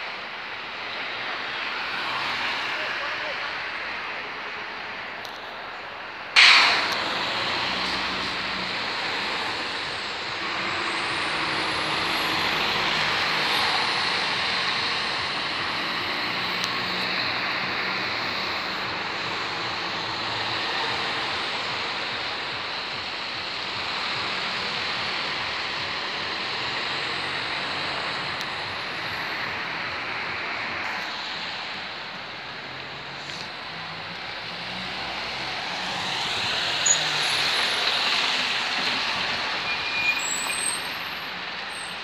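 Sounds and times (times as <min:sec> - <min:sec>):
cars passing: 0:00.0 - 0:42.0
tyres hissing on wet road: 0:00.0 - 0:42.0
bus engine pulling away: 0:06.4 - 0:42.0.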